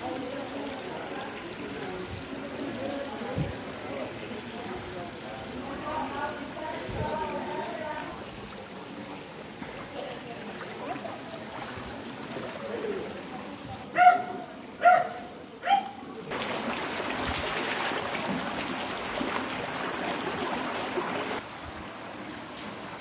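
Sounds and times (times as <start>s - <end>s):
water in flooded street: 0.0s - 23.0s.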